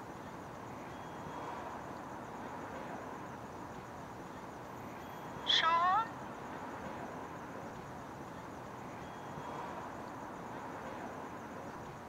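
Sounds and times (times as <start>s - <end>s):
faint crickets chirping: 0.0s - 12.0s.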